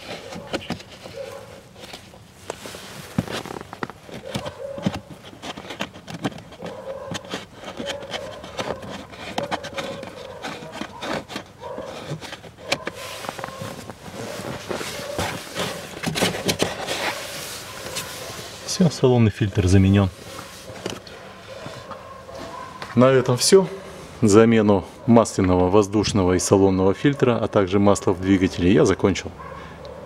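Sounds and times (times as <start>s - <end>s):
rubbing and rustling: 0.0s - 24.2s.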